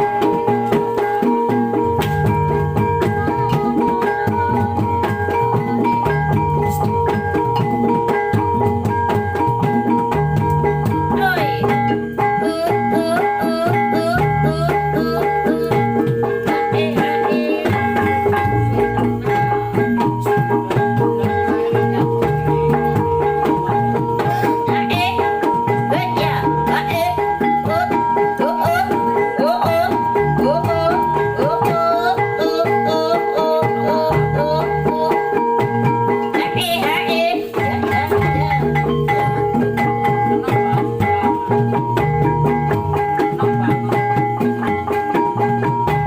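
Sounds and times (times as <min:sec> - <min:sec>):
drums playing: 0:00.0 - 0:46.0.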